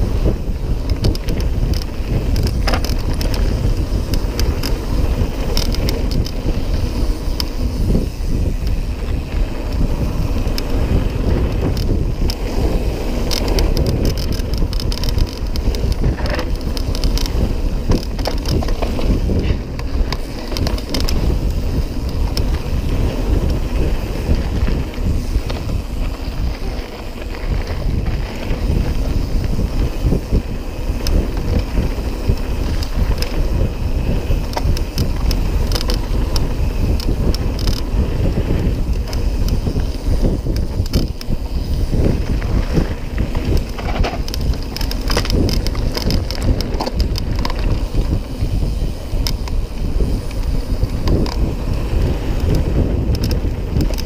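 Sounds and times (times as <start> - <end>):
bike rattling: 0.0 - 54.0
tyres rolling on gravel: 0.0 - 54.0
wind buffeting microphone: 0.0 - 54.0.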